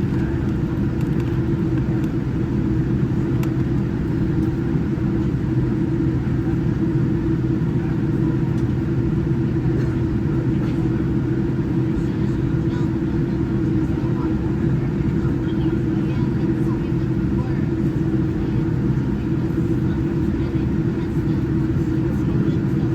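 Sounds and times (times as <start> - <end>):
airliner cabin rumble: 0.0 - 22.9.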